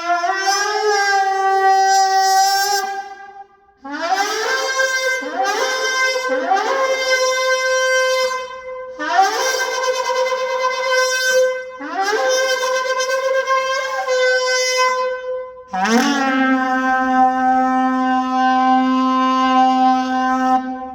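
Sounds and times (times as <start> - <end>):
horn shofar blasts: 0.0 - 20.9.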